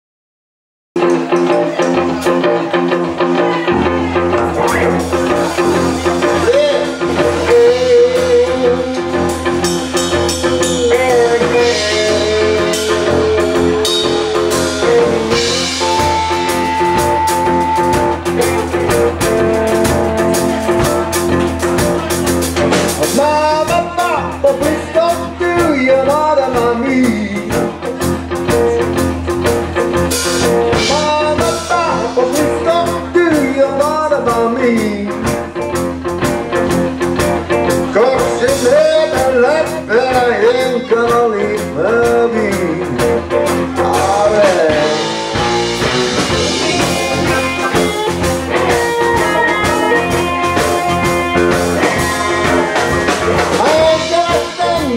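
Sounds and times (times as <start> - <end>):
bending lead guitar line: 1.0 - 54.9
blues-rock band playing live: 1.0 - 54.9.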